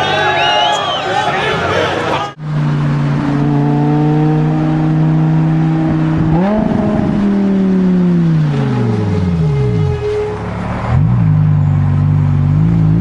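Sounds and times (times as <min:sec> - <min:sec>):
car engine revving: 0:02.3 - 0:13.0.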